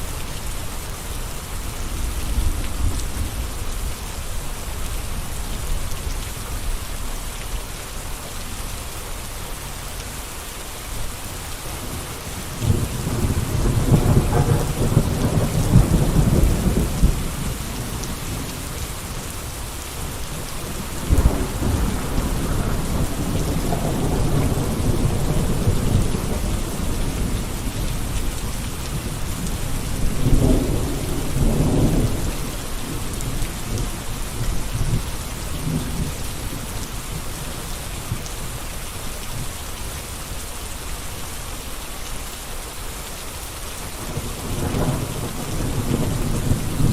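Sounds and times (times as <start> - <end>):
steady rain hissing: 0.0 - 46.9.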